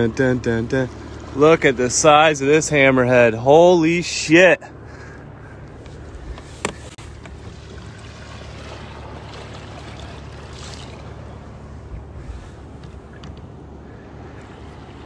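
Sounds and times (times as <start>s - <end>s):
water lapping against hull: 0.0s - 15.0s.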